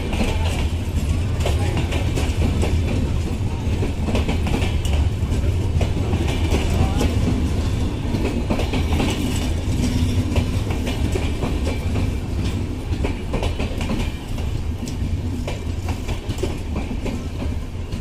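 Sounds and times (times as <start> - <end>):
train coaches rumbling: 0.0 - 18.0
wheels clacking over rail joints: 0.0 - 18.0.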